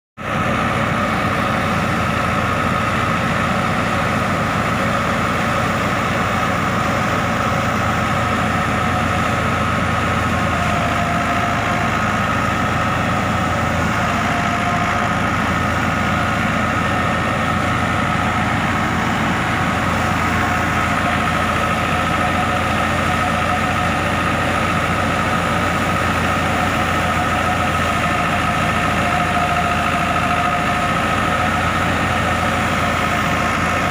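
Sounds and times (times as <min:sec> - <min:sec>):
tractor and thresher drone: 0:00.2 - 0:33.9.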